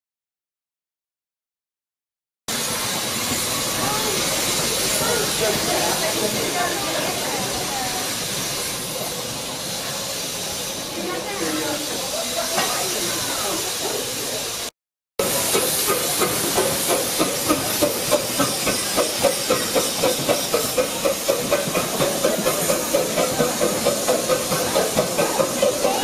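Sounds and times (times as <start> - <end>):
steam hissing: 2.5 - 26.0
steam locomotive chuffing: 2.5 - 26.0.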